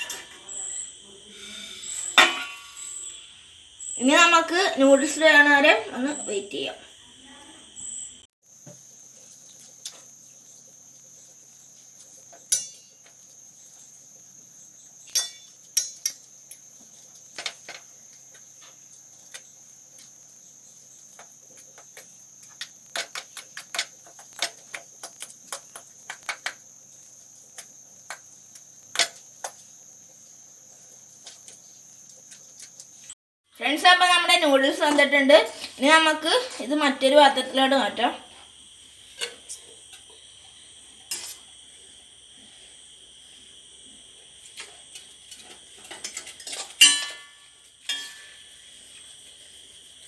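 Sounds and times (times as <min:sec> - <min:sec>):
cricket chirring: 0:00.0 - 0:50.0.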